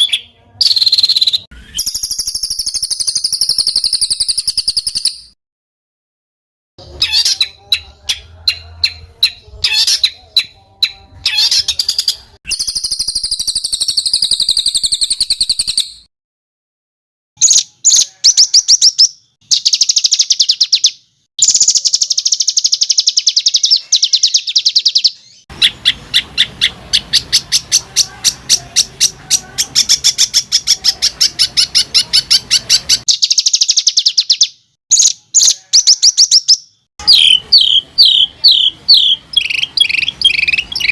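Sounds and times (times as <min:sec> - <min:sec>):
songbird singing trills: 0:00.0 - 0:05.4, 0:06.8 - 0:16.1, 0:17.4 - 0:40.9.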